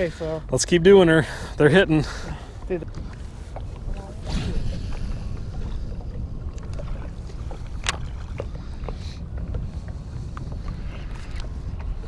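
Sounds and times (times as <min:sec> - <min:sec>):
wind rumble on microphone: 0:01.8 - 0:12.0.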